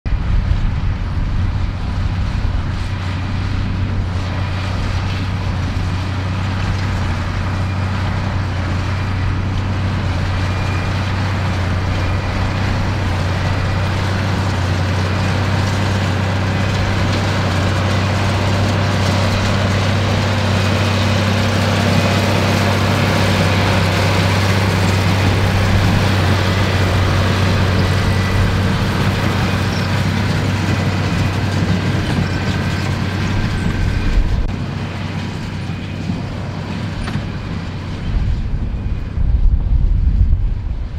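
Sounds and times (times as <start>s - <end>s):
tractor diesel engine drone: 0.1s - 40.9s
baler machinery clatter: 0.4s - 40.9s.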